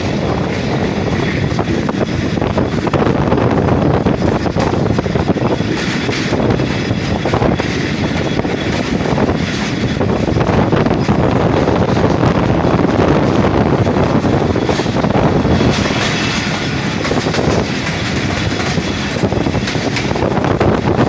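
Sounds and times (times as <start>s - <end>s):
train wheels rumbling on track: 0.0s - 21.0s
wind buffeting microphone: 0.0s - 21.0s.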